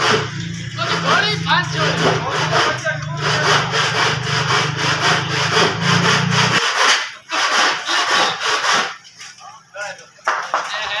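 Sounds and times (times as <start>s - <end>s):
hand saw cutting wood: 0.0s - 9.2s.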